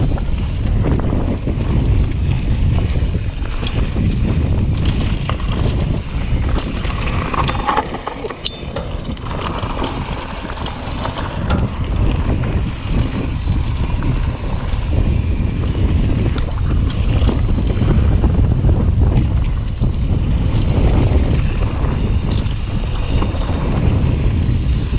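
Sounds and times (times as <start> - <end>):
bike clicks and rattles: 0.0 - 24.9
heavy low rumble: 0.0 - 24.9
wind buffeting a microphone: 0.0 - 24.9.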